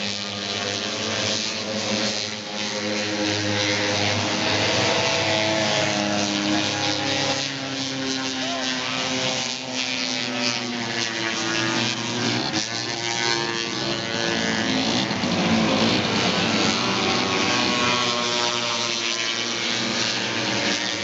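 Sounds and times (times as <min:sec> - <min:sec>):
snowmobile engines racing: 0:00.0 - 0:21.0.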